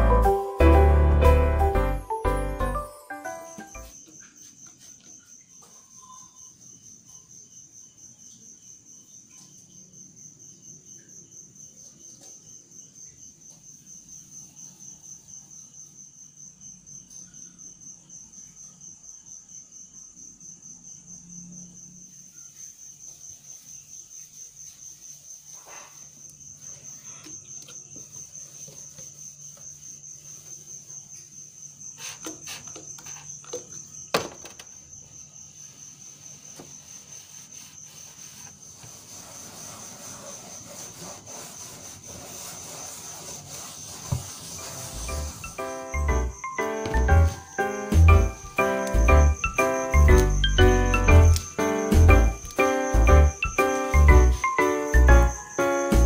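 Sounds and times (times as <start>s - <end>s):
cricket chirping trill: 0.0s - 56.0s.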